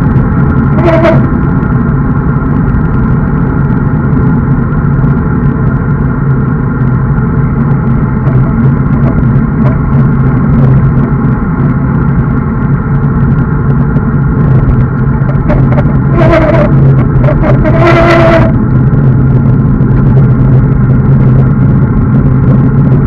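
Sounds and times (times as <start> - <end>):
bike tyres on asphalt: 0.0 - 23.0
wind rushing on microphone: 0.0 - 23.0.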